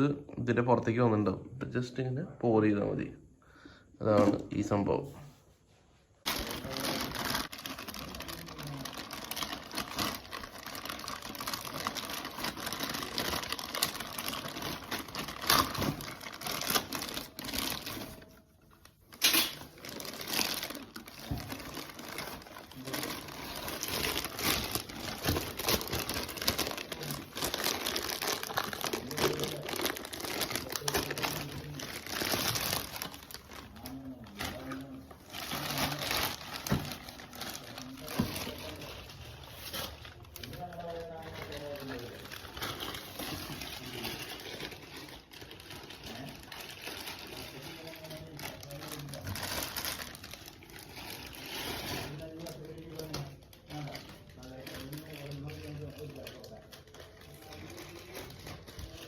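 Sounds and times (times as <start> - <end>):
plastic packaging crinkling: 6.2 - 59.0.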